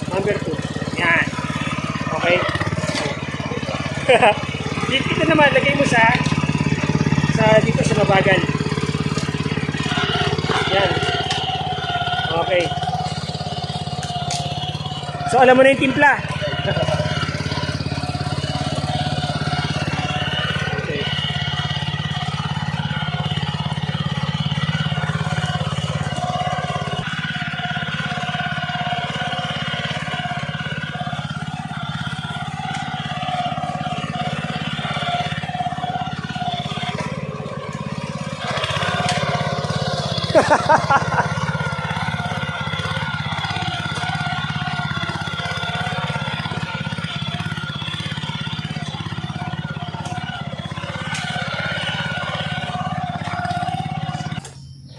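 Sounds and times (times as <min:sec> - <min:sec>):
hand tractor engine running: 0:00.0 - 0:54.9.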